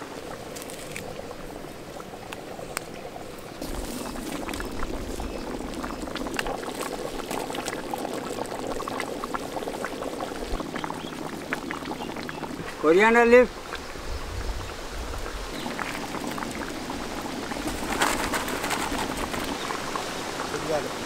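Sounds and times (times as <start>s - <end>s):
curry bubbling in a pot: 0.0s - 20.7s.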